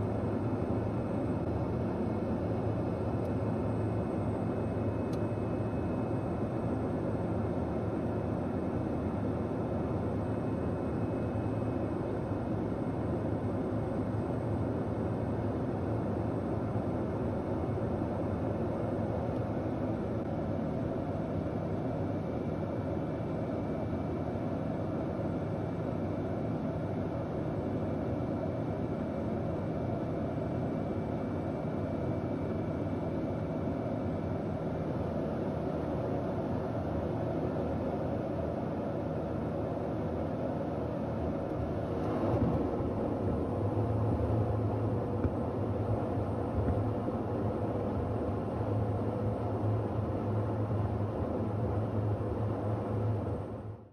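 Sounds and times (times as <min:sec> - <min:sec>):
aircraft engine and propeller: 0:00.0 - 0:53.9.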